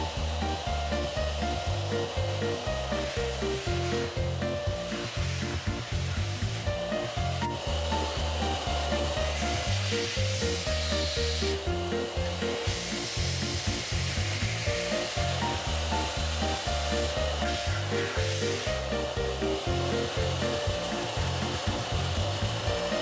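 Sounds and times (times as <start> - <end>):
instrumental music: 0.0 - 23.0
steady hissing noise: 0.0 - 23.0.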